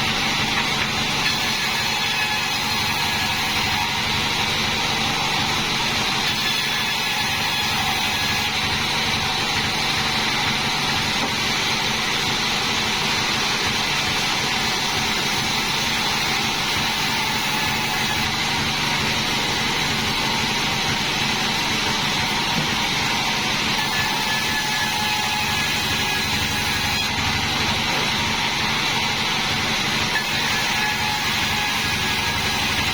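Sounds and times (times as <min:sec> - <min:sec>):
band sawmill running: 0:00.0 - 0:32.9.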